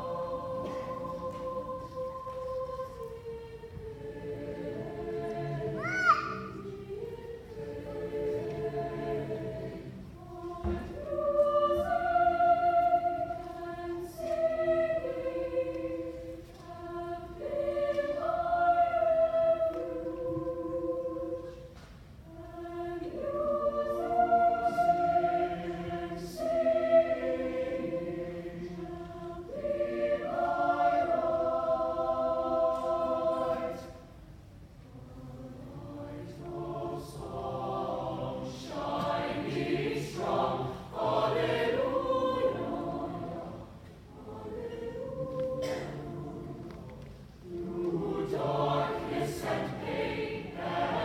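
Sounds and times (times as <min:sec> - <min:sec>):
mixed choir singing: 0:00.0 - 0:51.0.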